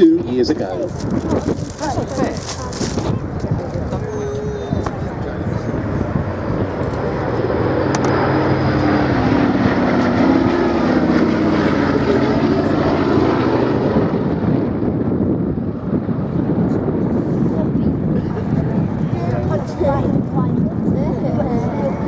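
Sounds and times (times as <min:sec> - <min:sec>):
propeller plane engines droning: 0:00.0 - 0:22.0.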